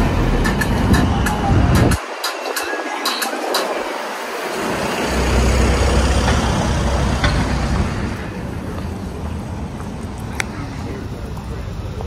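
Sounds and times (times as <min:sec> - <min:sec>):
heavy vehicle engine rumble: 0:00.0 - 0:12.0
street traffic: 0:00.0 - 0:12.0.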